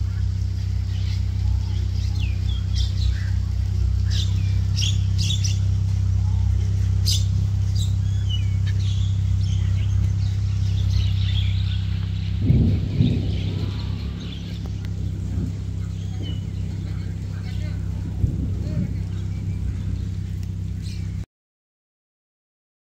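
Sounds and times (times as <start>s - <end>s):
birds chirping and squawking: 0.0s - 21.2s
loud low hum: 0.0s - 21.3s.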